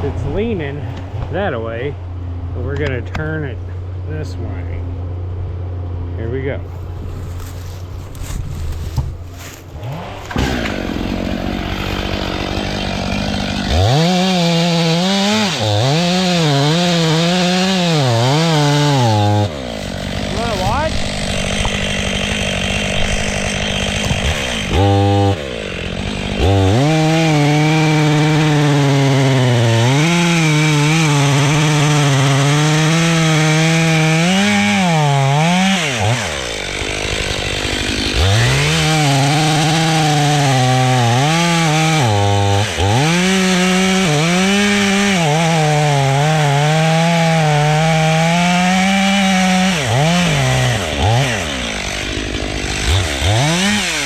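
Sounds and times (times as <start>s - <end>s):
chainsaw cutting wood: 6.8s - 54.0s.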